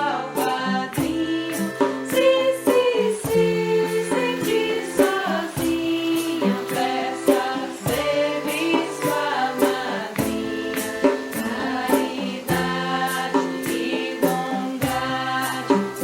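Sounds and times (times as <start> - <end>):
choir singing sustained notes: 0.0 - 16.0
steady beat: 0.0 - 16.0.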